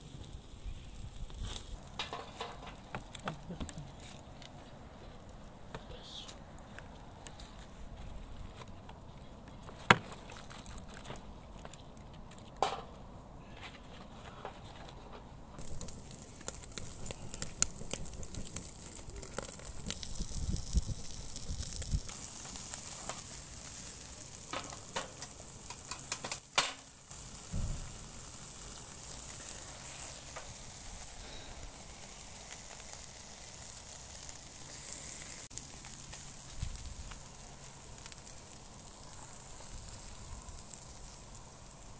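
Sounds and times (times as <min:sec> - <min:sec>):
fat crackling and popping: 0:00.0 - 0:41.9
meat sizzling over charcoal: 0:00.0 - 0:41.9.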